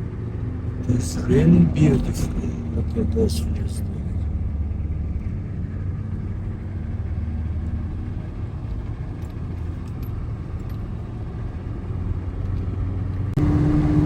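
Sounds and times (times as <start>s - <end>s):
vehicle engine and road drone: 0.0s - 14.0s.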